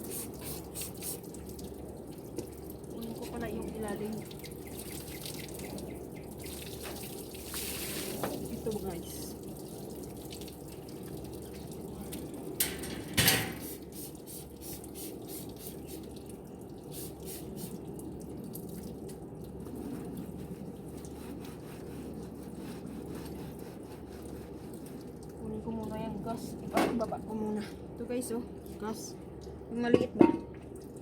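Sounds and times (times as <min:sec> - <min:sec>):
water dripping and trickling: 0:00.0 - 0:31.0.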